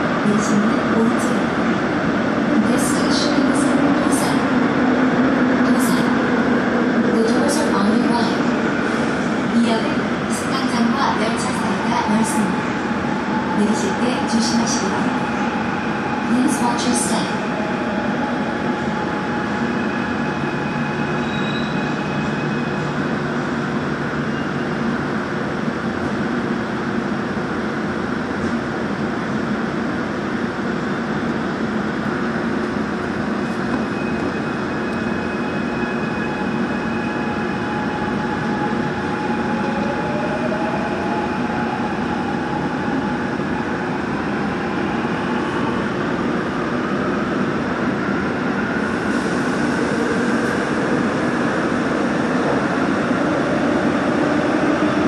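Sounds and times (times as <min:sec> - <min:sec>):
subway train rumble: 0:00.0 - 0:55.0.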